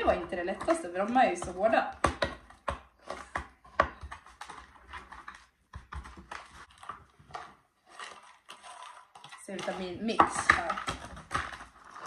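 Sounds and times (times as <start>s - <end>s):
fork crushing tablets in plastic tub: 0.0s - 12.0s.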